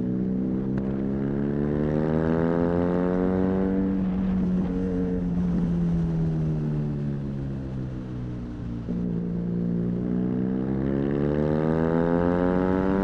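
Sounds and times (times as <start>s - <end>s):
motorcycle engine at road speed: 0.0s - 13.0s.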